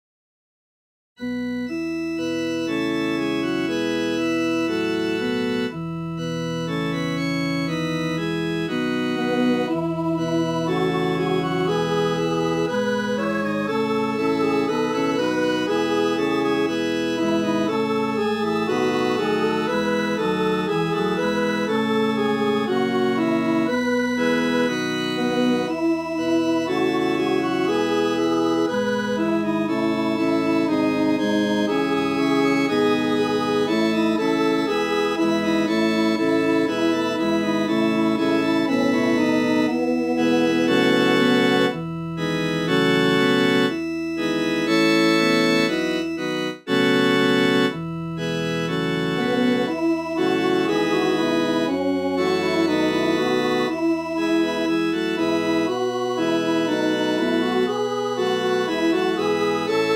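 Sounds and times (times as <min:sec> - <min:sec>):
organ playing held chords: 0:01.2 - 0:59.9.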